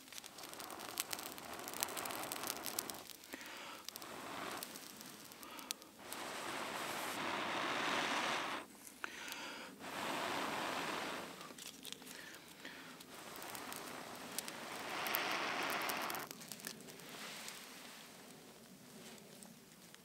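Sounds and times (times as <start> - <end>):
breath blowing into tinder: 0.0 - 17.8
dry tinder crackling and rustling: 0.0 - 20.0.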